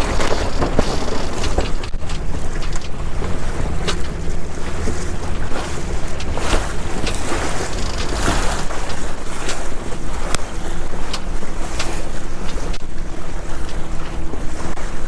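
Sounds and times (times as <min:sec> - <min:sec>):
boat clicks and knocks: 0:00.0 - 0:14.6
water washing along hull: 0:00.0 - 0:15.0
wind buffeting microphone: 0:00.0 - 0:15.0.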